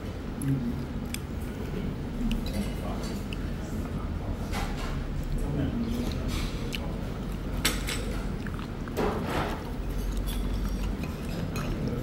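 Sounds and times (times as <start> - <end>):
chewing and mouth noises: 0.4 - 3.8, 5.2 - 12.0.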